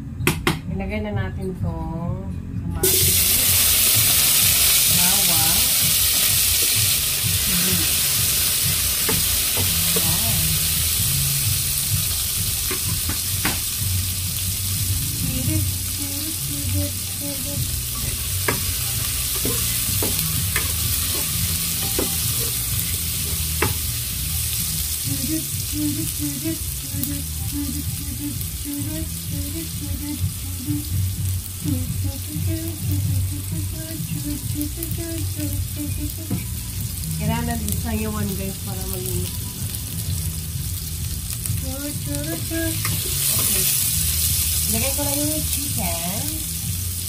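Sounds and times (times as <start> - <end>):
vegetables sizzling in a pot: 2.8 - 47.0.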